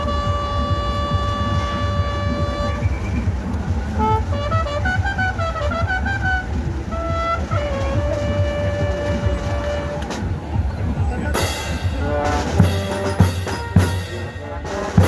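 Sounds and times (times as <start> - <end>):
brass horns playing: 0.0 - 10.4, 11.4 - 15.0
steady drumming: 0.0 - 15.0.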